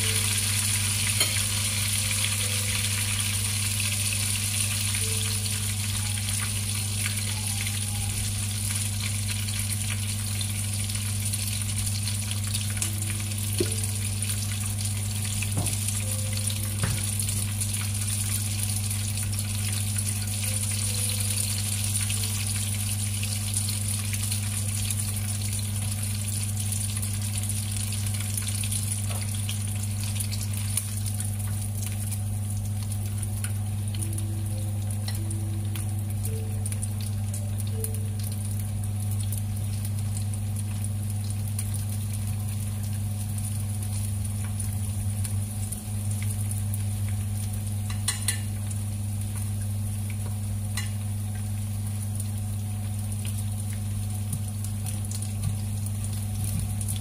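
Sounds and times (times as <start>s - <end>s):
dumplings sizzling in oil: 0.0s - 57.0s
low electrical hum: 0.0s - 57.0s.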